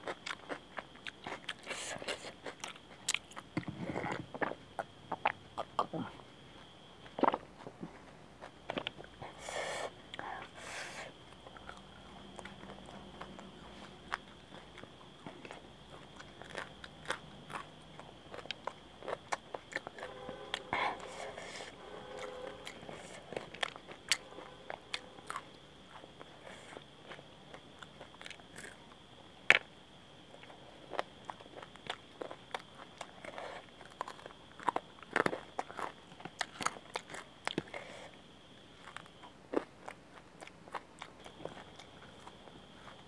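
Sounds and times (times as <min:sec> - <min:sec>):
crunchy chewing: 0:00.0 - 0:43.0.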